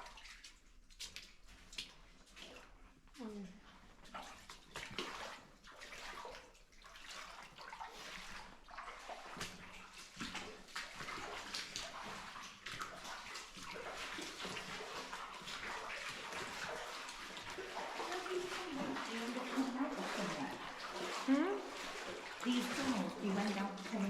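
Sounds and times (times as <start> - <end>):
footsteps splashing through water: 0.0 - 2.9, 4.0 - 24.0.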